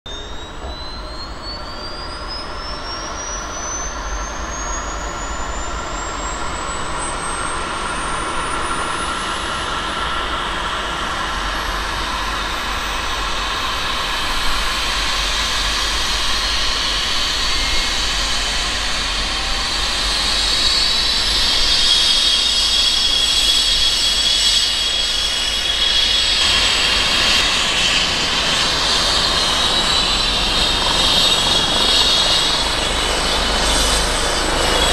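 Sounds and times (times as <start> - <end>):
helicopter turbine whine: 0.1 - 34.9.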